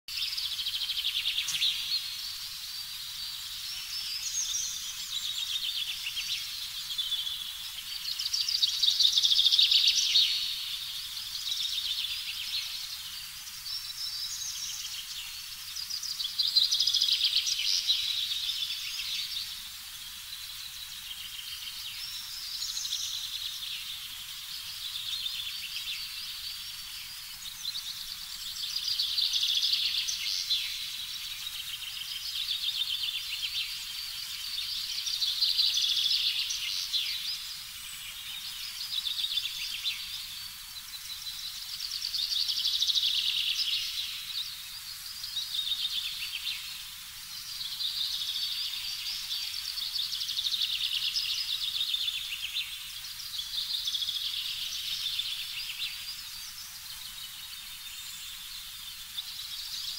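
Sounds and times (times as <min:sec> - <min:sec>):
small birds chirping and trilling: 0:00.0 - 0:59.9.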